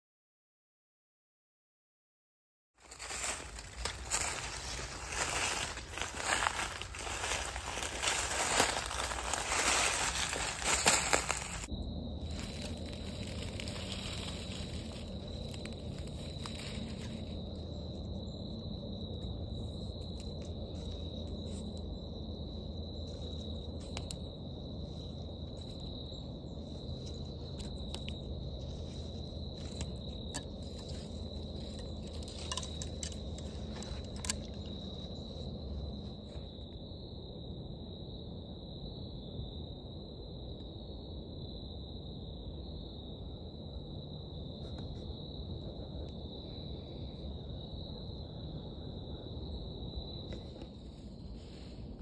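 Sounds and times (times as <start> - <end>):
insects trilling: 2.8 - 52.0.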